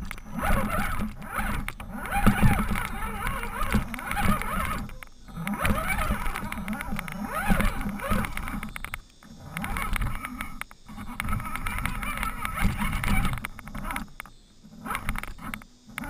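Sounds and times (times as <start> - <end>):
toy truck motor whining: 0.0 - 16.0.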